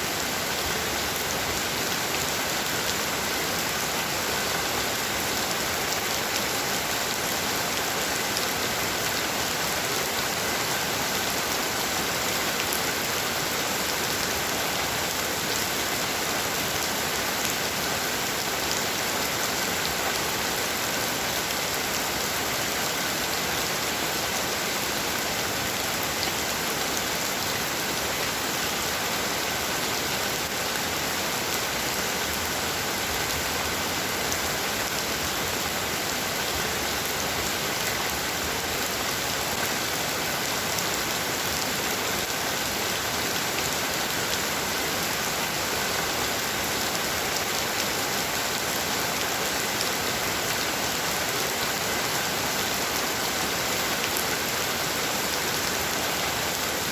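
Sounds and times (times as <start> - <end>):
heavy rain on hard surface: 0.0 - 56.9.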